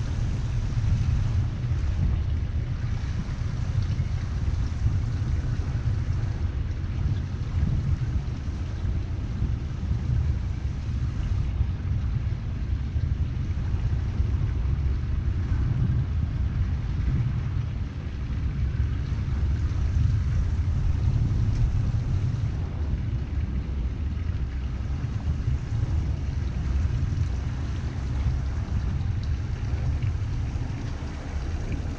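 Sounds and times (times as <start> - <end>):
outboard engine rumble: 0.0 - 31.9
wind on microphone: 0.0 - 31.9.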